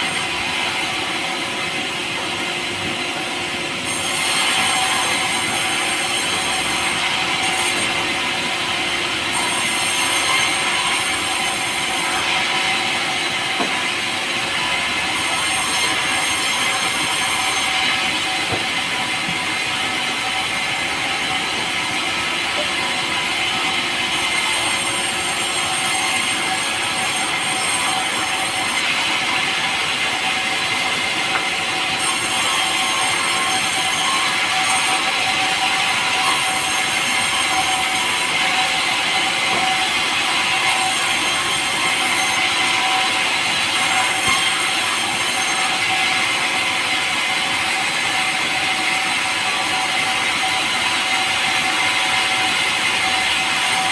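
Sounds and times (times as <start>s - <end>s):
power saw cutting a log: 0.0s - 53.9s.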